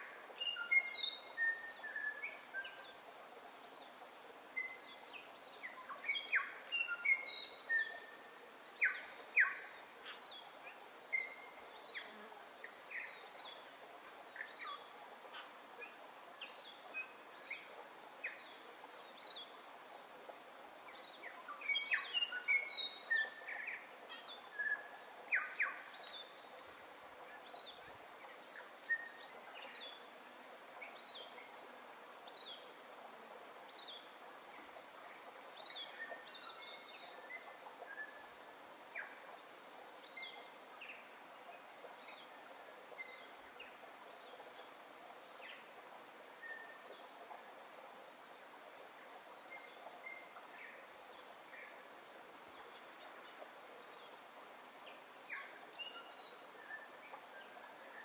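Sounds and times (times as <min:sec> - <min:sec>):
faint steady hiss: 0:00.0 - 0:58.0
songbirds chirping: 0:00.0 - 0:58.0.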